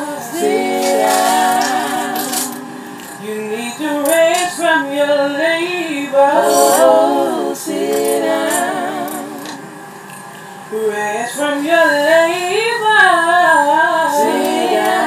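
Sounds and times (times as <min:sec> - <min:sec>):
woman singing a cappella gospel: 0:00.0 - 0:09.7, 0:10.7 - 0:15.0.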